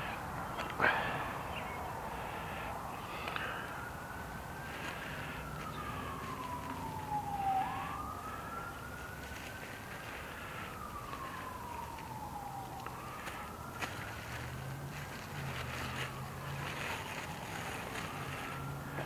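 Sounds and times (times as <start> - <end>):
emergency siren wailing: 0.0 - 19.0.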